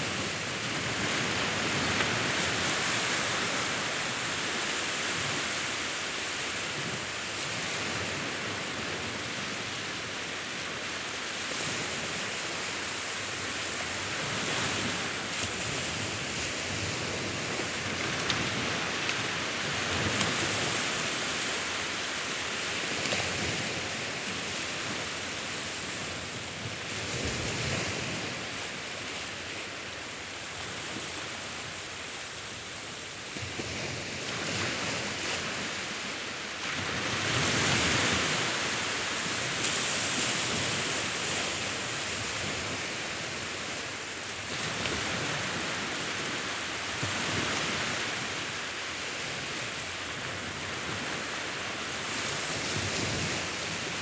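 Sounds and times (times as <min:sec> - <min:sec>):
sea waves breaking: 0:00.0 - 0:29.8, 0:30.4 - 0:54.0.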